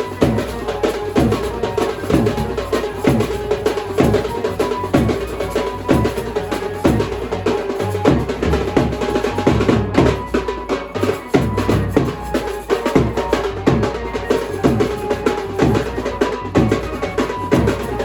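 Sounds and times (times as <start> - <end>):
drum pattern: 0.0 - 18.0.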